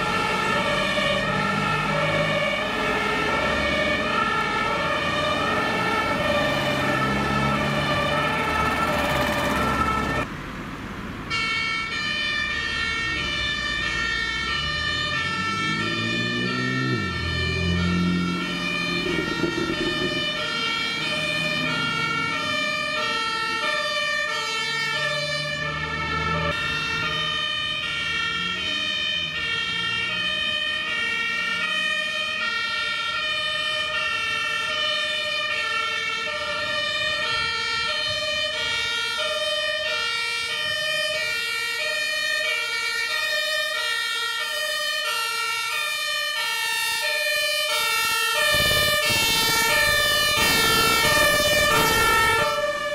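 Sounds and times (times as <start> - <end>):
truck engines running: 0.0 - 52.9
two-tone sirens: 0.0 - 52.9.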